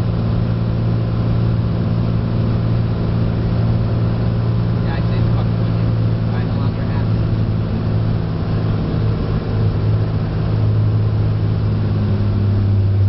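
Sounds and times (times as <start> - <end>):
plane engine and propeller: 0.0 - 13.0.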